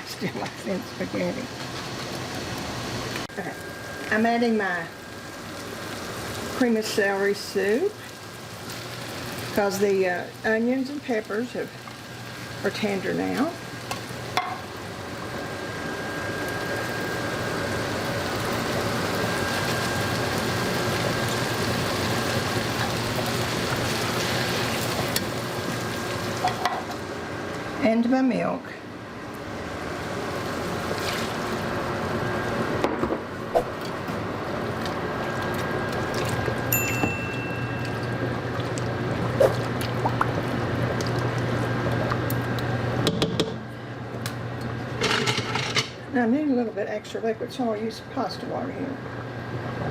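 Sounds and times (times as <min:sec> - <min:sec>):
vegetables sizzling in a pan: 0:00.1 - 0:28.5, 0:29.2 - 0:43.2.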